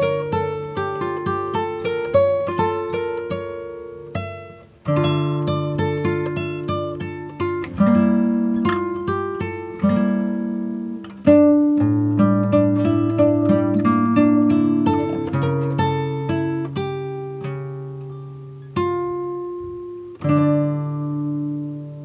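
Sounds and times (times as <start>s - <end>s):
plucked string music: 0.0s - 22.0s.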